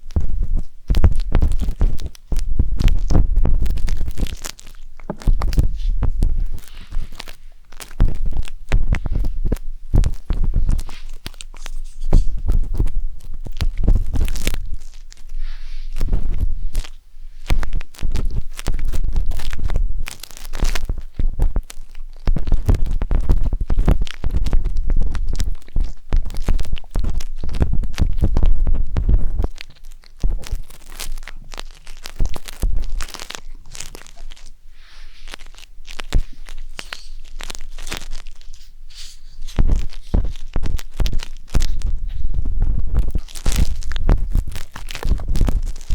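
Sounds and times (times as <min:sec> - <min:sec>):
wooden skewer scratching microphone: 0:00.0 - 0:29.6, 0:30.2 - 0:45.9
deep rumbles on microphone: 0:00.0 - 0:45.9.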